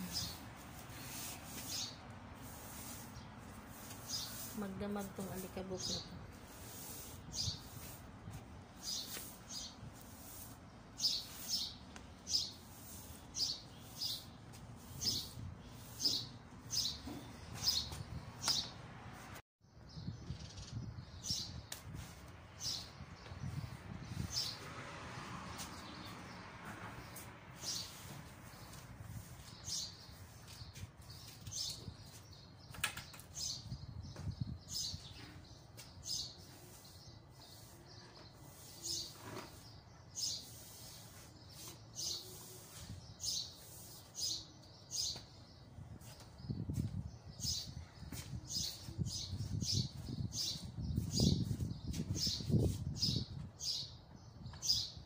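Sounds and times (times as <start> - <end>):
broom sweeping sand on tiles: 0.0 - 19.4, 21.2 - 32.6, 34.3 - 53.8.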